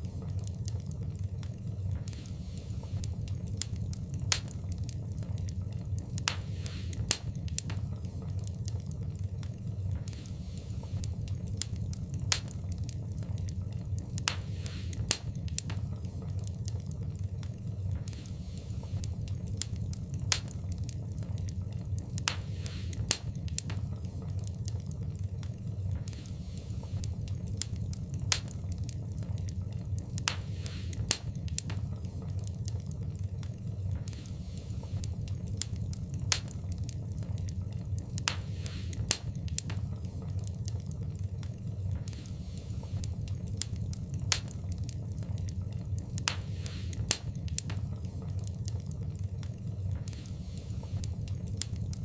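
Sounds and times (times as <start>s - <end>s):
steady low rumble: 0.0s - 52.0s
wood fire crackling: 0.0s - 52.0s.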